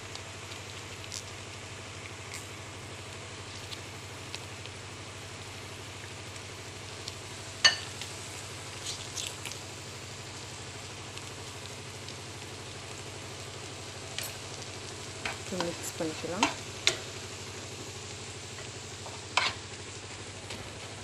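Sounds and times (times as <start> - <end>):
egg and tomato sizzling in a pan: 0.0 - 21.0.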